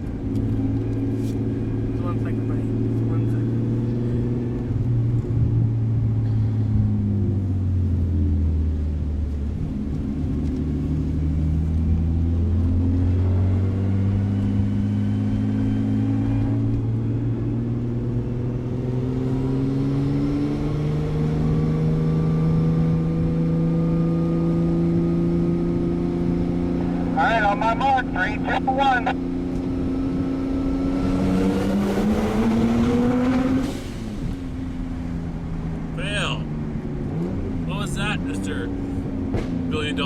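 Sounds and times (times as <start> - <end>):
car exhaust drone: 0.0 - 40.0.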